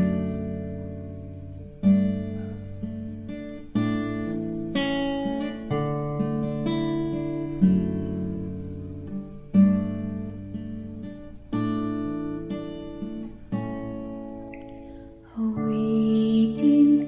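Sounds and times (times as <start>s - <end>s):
acoustic guitar slow chords: 0.0s - 17.0s.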